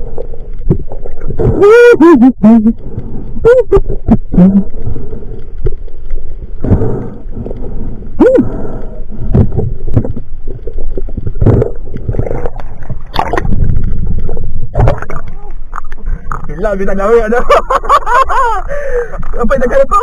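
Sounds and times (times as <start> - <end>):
water splashing and churning: 0.0 - 17.8
muffled underwater rushing water: 0.0 - 20.0.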